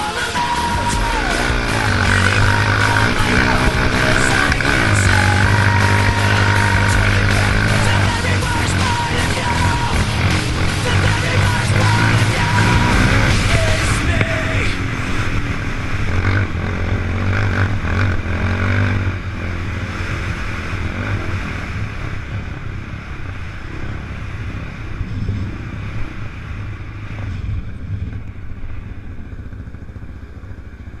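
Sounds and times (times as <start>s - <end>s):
off-road engine revving: 0.0s - 31.0s.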